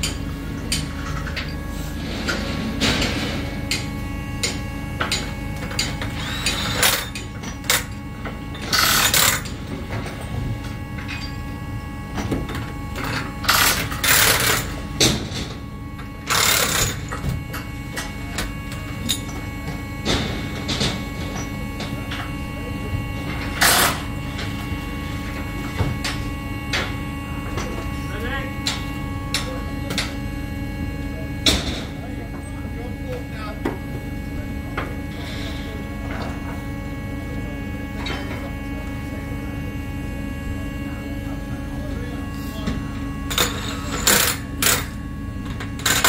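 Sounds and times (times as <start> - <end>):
machine drone: 0.0 - 46.0.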